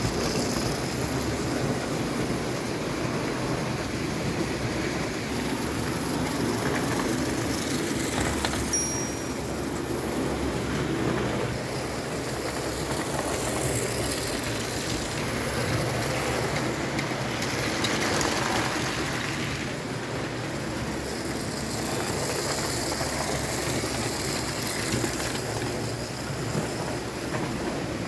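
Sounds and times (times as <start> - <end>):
toy train wheels rattling on rails: 0.0 - 28.0.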